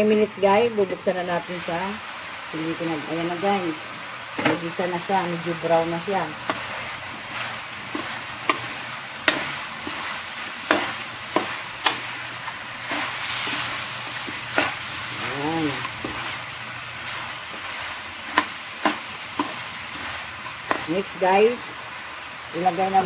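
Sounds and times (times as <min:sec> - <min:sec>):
chicken sizzling in a wok: 0:00.0 - 0:23.0.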